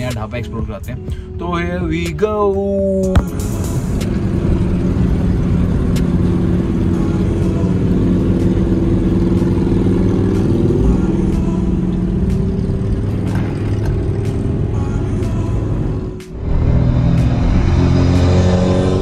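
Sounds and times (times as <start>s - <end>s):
road rumble: 0.0s - 19.0s
vehicle engine drone: 0.0s - 19.0s.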